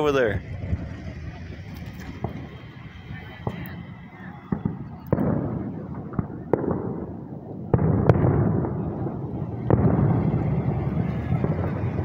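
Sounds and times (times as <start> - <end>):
fireworks bangs: 0.0 - 12.0
rumble of echoing booms: 0.0 - 12.0.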